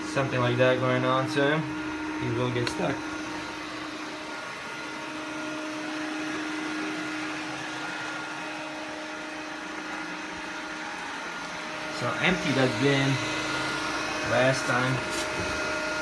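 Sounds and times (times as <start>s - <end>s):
robot vacuum whirring: 0.2s - 16.0s.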